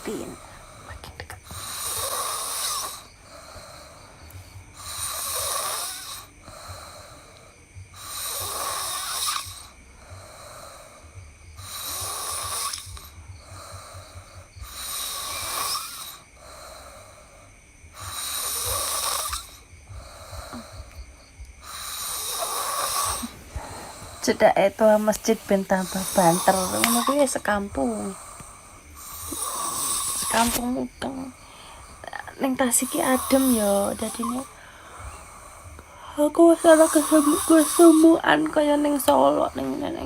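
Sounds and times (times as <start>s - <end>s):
person snoring: 0.0s - 40.0s.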